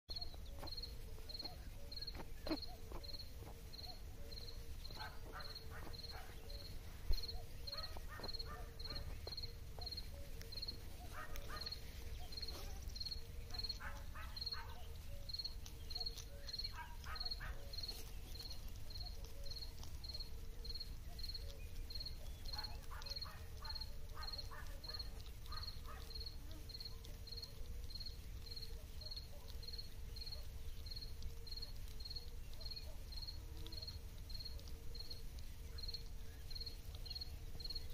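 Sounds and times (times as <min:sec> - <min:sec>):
cricket chirping: 0:00.1 - 0:37.9
hedgehog chewing and snuffling: 0:00.1 - 0:37.9.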